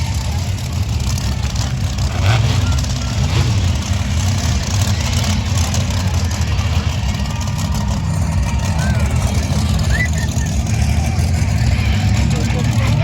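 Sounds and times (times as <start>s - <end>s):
monster truck engine rumbling: 0.0s - 13.0s.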